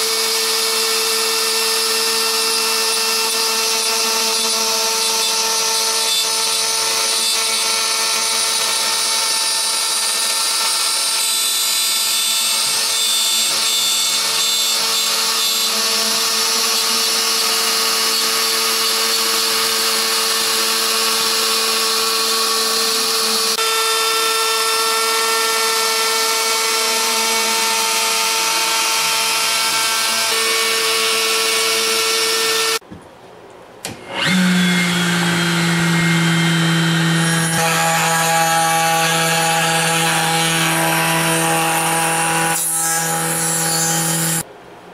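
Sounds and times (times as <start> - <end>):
router spindle whining: 0.0 - 32.8, 34.0 - 44.4.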